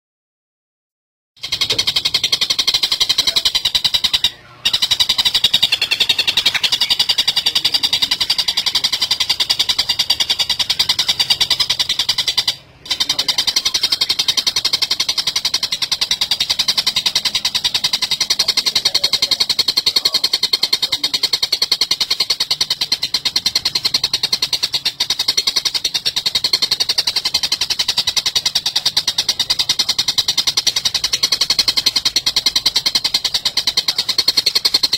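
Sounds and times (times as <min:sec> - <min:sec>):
bird harsh chattering call: 0:01.4 - 0:34.9.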